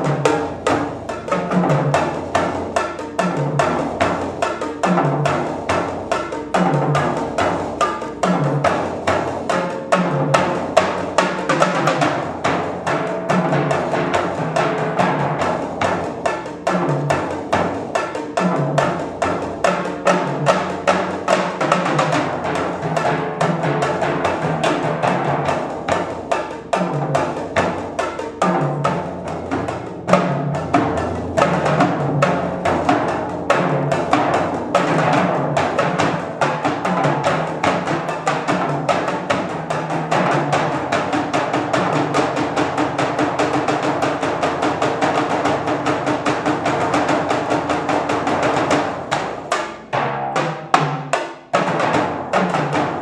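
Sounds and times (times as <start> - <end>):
percussion ensemble drumming: 0.0 - 53.0.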